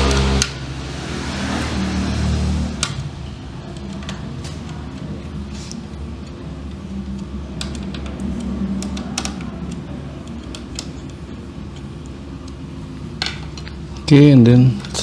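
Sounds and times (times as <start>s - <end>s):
steady low hum: 0.0s - 15.0s
small parts clicking and tapping: 2.2s - 15.0s.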